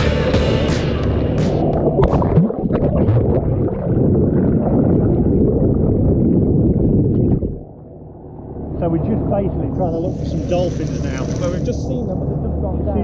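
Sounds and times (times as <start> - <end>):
water rushing: 0.0 - 12.9.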